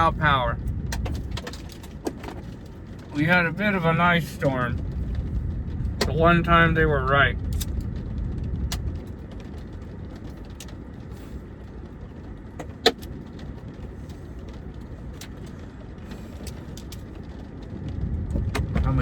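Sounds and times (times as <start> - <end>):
car engine idling: 0.0 - 19.0
ice ticking on car: 0.0 - 19.0.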